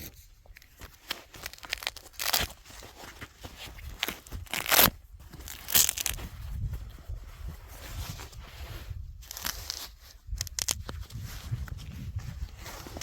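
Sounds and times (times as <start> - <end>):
crunching snow: 0.7 - 13.0.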